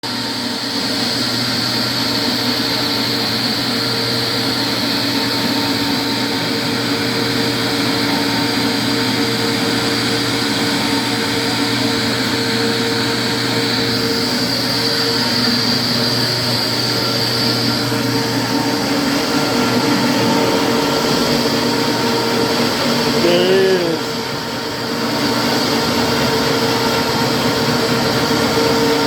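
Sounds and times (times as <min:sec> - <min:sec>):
floor sanding machine running: 0:00.0 - 0:29.0.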